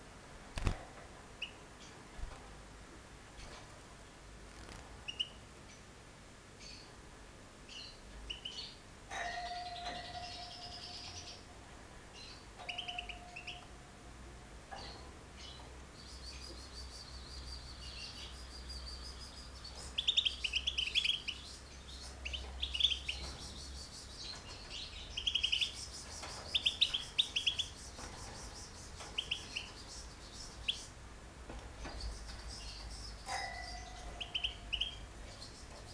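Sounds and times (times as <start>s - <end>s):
cage birds chirping: 0.6s - 35.9s.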